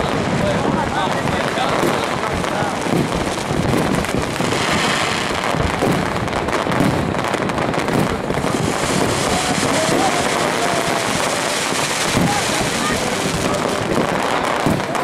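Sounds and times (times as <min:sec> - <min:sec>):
fireworks bursting: 0:00.0 - 0:15.0
fireworks crackling: 0:00.0 - 0:15.0.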